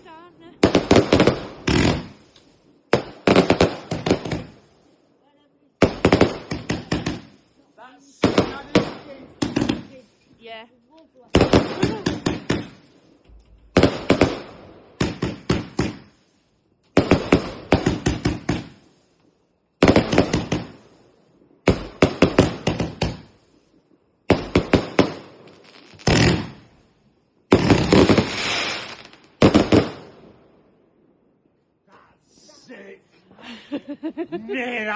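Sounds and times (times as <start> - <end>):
fireworks bangs: 0.0 - 4.9, 5.8 - 31.1.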